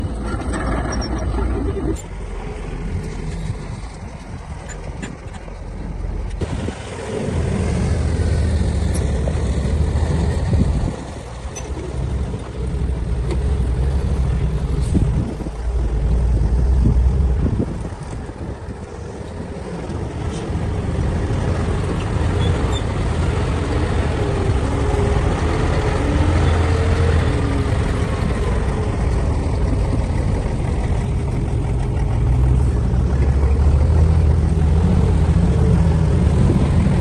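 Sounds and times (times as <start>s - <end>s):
diesel machinery rumbling: 0.0s - 37.0s.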